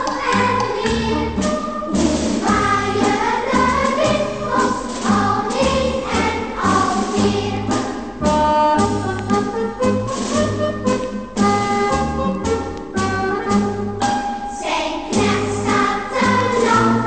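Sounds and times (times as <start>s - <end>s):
background music with singing: 0.0s - 17.0s
bass line: 0.3s - 14.1s.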